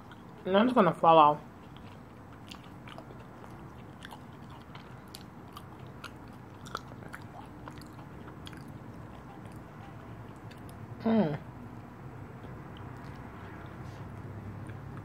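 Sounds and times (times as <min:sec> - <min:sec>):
person chewing cake: 0:00.0 - 0:00.4, 0:01.4 - 0:10.9, 0:12.2 - 0:15.0.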